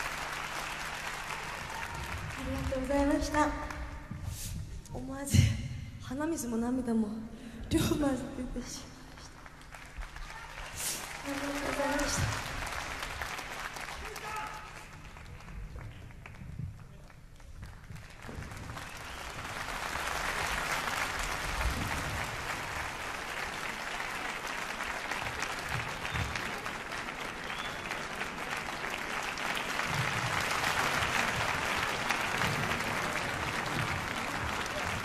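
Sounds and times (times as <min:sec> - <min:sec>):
audience applauding: 0:00.0 - 0:04.0, 0:09.1 - 0:35.0.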